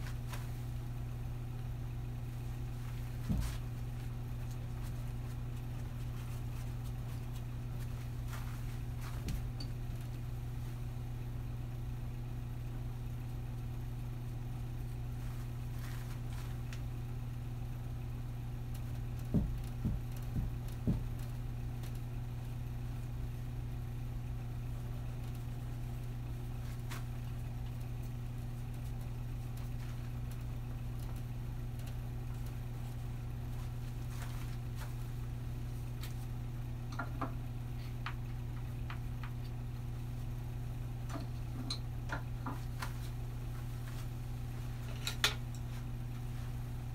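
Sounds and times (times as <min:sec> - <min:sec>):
low electrical hum: 0:00.0 - 0:46.9.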